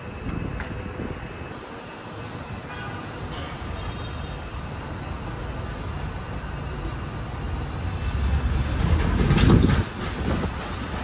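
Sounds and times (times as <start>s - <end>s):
electric train rumbling: 0.0s - 11.0s
train rattling and knocking: 0.0s - 11.0s.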